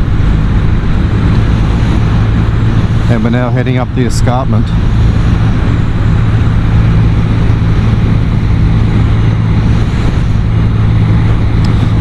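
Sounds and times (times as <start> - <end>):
motorcycle engine running: 0.0 - 12.0
wind rush over microphone: 0.0 - 12.0.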